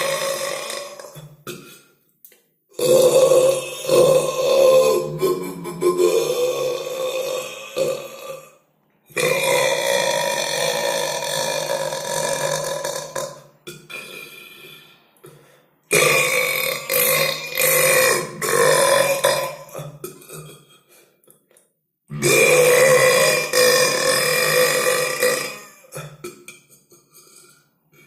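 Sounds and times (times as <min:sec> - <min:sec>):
long human belches: 0:00.0 - 0:02.0, 0:02.7 - 0:21.5, 0:22.1 - 0:28.0.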